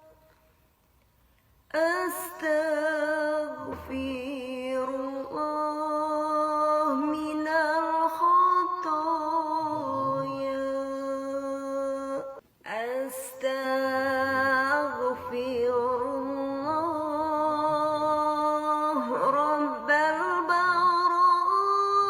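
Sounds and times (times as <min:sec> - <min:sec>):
person singing slow melody: 0:01.7 - 0:22.0.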